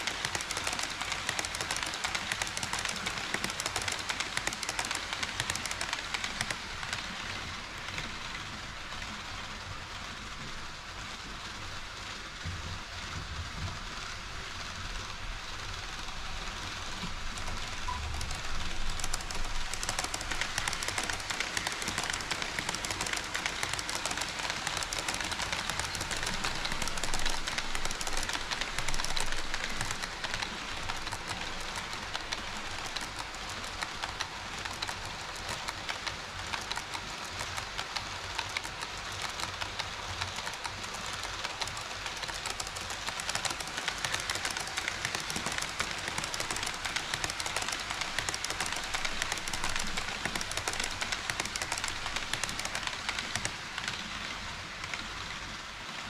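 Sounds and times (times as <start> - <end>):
model train wheels rattling: 0.0 - 56.0.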